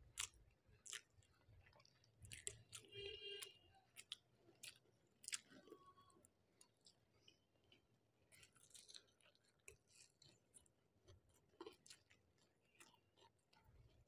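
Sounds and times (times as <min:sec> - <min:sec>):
faint chewing: 0:00.0 - 0:14.0.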